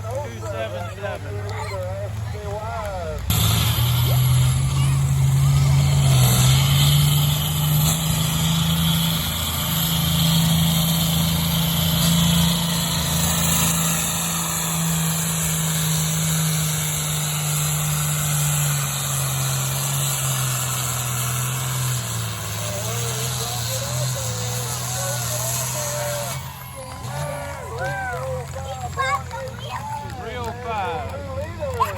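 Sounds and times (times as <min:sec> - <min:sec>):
vehicle engine under load: 0:00.0 - 0:31.9.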